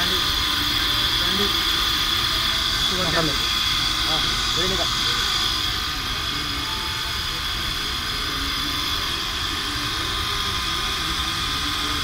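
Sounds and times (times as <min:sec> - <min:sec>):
high whine of spinning head: 0:00.0 - 0:12.0.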